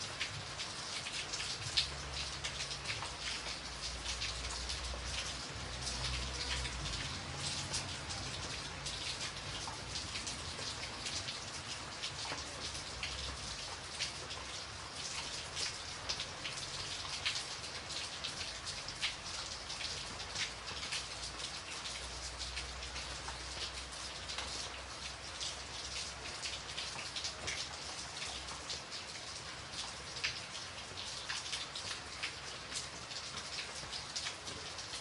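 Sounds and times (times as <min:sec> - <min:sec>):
rain drops striking: 0:00.0 - 0:35.0.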